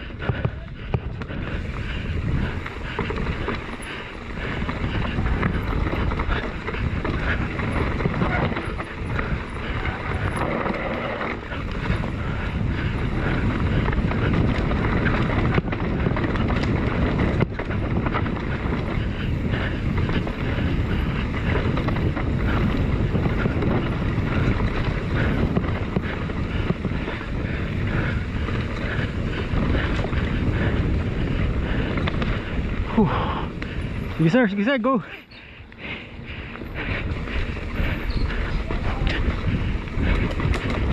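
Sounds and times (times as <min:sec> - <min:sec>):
bike tyres rumbling on dirt: 0:00.0 - 0:40.9
wind buffeting microphone: 0:00.0 - 0:40.9.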